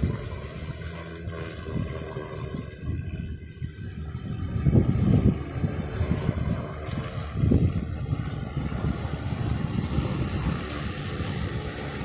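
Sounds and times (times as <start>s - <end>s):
drone propellers running: 0.0s - 12.0s
low rumbling gusts: 0.0s - 12.0s.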